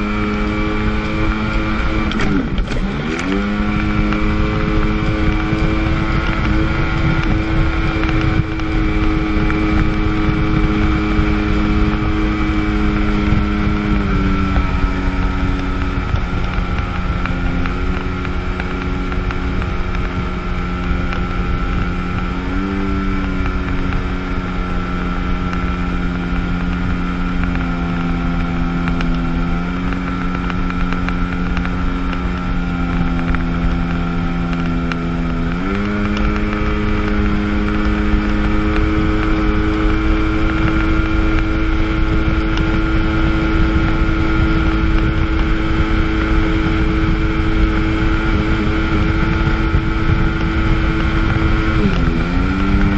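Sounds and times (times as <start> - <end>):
jet ski engine running: 0.0 - 52.9
wind and water rushing: 0.0 - 52.9.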